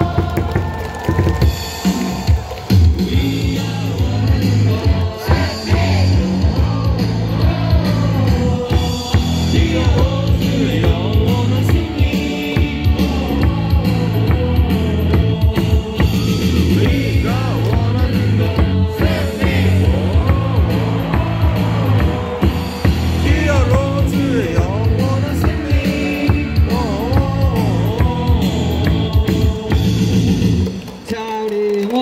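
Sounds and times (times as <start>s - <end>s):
singing: 0.0s - 30.3s
steady drum beat: 0.0s - 30.9s
rock cheer song over loudspeakers: 0.0s - 32.0s.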